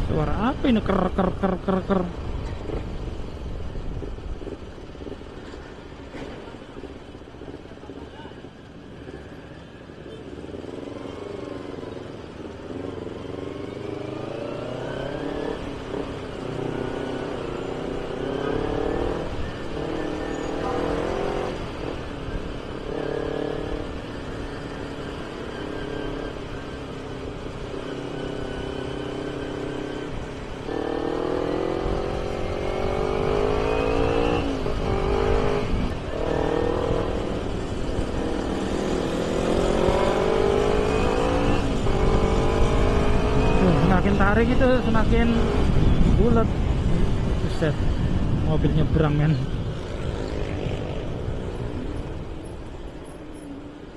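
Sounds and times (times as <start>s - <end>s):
motorcycle engine accelerating: 10.4s - 53.6s.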